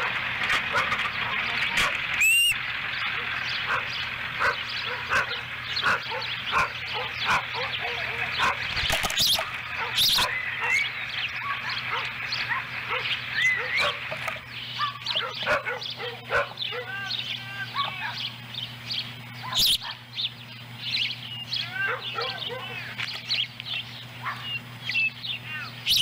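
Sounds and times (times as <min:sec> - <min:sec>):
low hum: 0:00.0 - 0:26.0
ospreys calling: 0:00.0 - 0:26.0.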